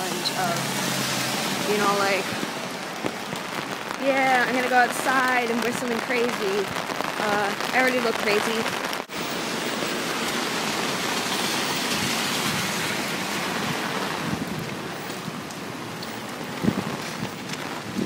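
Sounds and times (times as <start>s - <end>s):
rain pouring on pavement: 0.0s - 18.0s.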